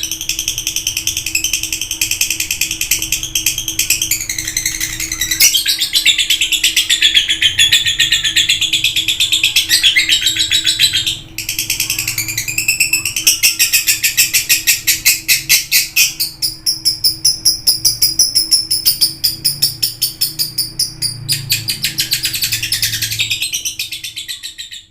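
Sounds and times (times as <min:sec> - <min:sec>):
lovebird singing rapid trill: 0:00.0 - 0:24.9.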